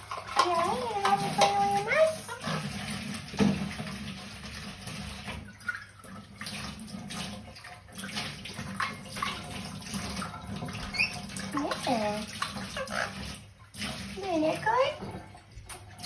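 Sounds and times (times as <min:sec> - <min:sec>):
water running from a tap: 0:00.0 - 0:16.0.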